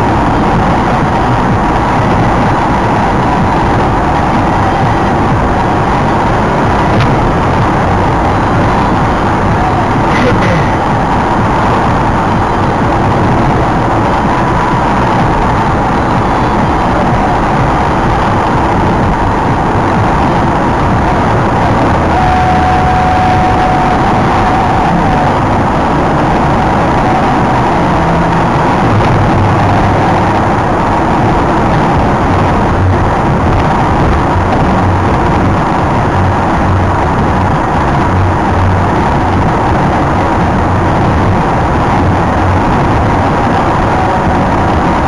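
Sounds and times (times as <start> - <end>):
low engine drone: 0.0 - 45.0
tyre and wind noise: 0.0 - 45.0.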